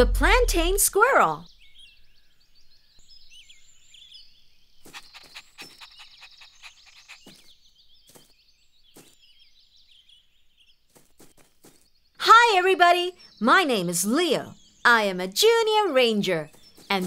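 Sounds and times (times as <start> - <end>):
small birds twittering: 0.6 - 17.0.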